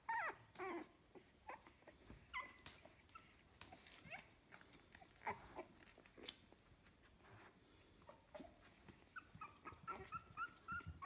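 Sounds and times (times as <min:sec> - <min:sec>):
puppies whimpering: 0:00.0 - 0:11.0
soft rustles and clicks: 0:00.2 - 0:11.0.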